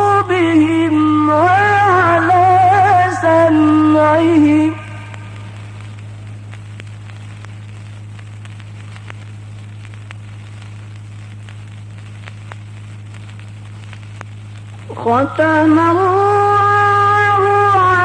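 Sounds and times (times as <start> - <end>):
faint clicks and crackles: 0.0 - 18.0
low hum: 0.0 - 18.0.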